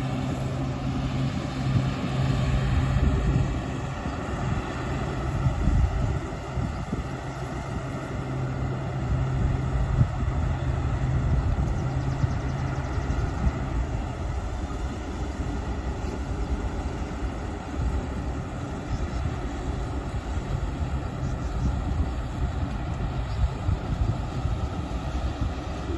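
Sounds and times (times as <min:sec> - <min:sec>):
harvesting machine engine humming: 0:00.0 - 0:25.9.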